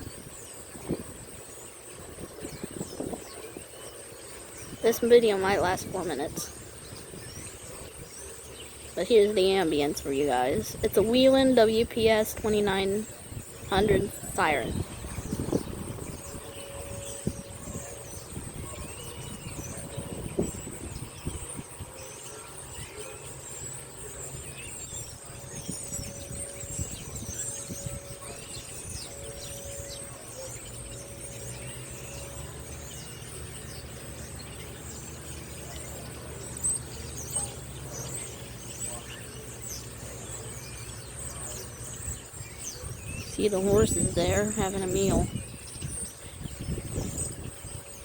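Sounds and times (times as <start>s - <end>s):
birds chirping: 0.0s - 48.0s
faint fan whine: 0.0s - 48.0s
high insect drone: 0.0s - 48.0s
vent fan hum: 0.0s - 48.0s.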